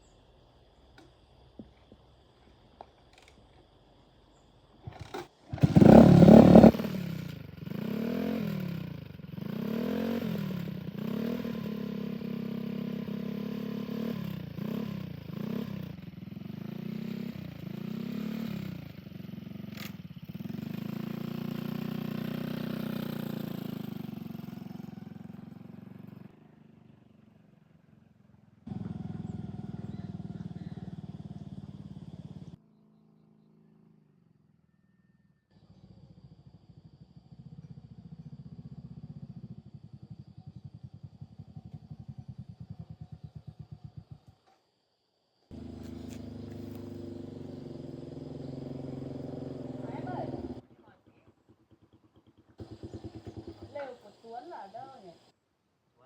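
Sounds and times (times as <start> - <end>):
motorcycle engine revving: 4.3 - 32.6, 35.5 - 44.6, 45.5 - 55.4.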